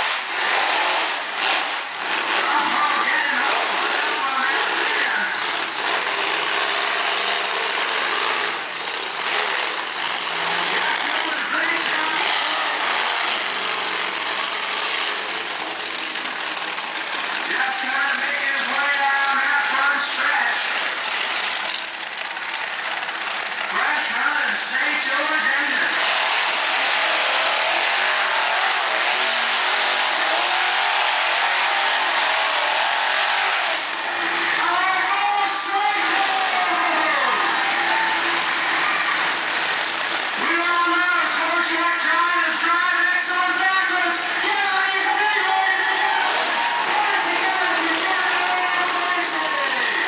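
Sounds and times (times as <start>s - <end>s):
monster truck engine revving: 0.0s - 50.0s.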